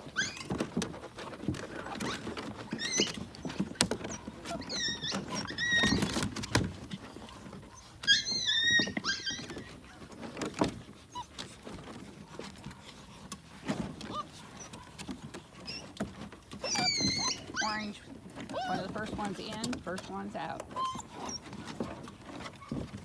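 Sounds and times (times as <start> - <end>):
puppies squealing and whining: 0.0 - 20.0, 20.6 - 23.0
puppies jostling while eating: 0.0 - 23.0.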